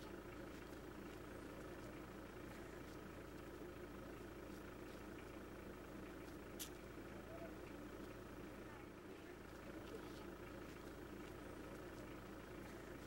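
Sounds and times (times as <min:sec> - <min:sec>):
faint mechanical hum: 0:00.0 - 0:13.0.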